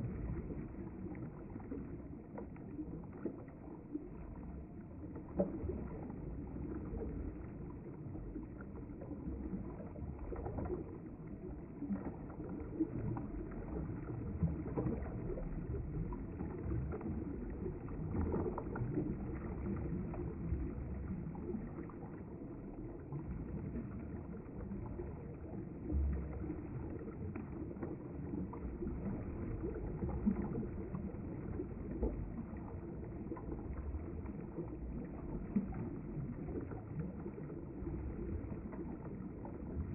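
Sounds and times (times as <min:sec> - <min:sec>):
river water flowing and gurgling: 0:00.0 - 0:39.9
small water splashes: 0:00.0 - 0:39.9.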